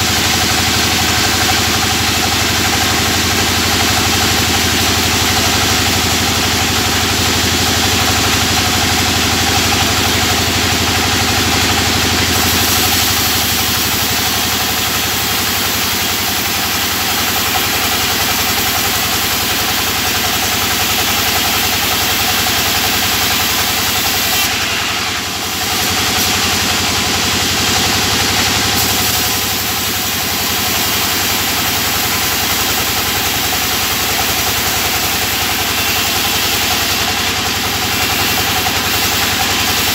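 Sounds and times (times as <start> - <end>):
sawmill machine cutting wood: 0.0 - 39.9.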